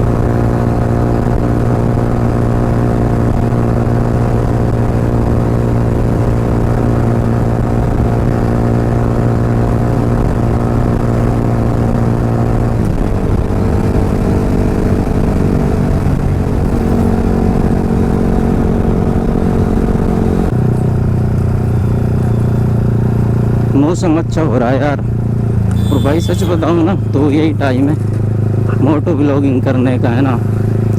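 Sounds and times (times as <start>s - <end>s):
motorcycle engine at highway speed: 0.0s - 30.9s.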